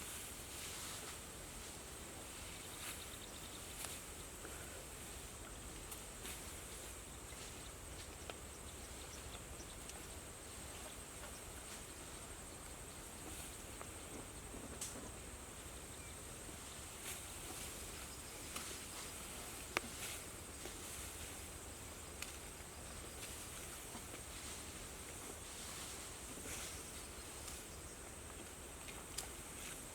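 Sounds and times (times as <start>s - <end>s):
low hiss: 0.0s - 29.9s.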